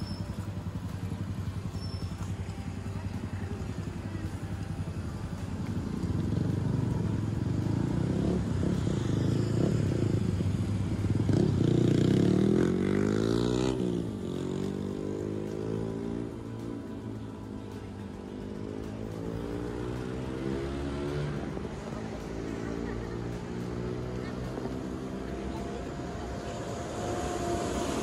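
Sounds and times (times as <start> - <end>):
traffic engine hum: 0.0 - 28.0.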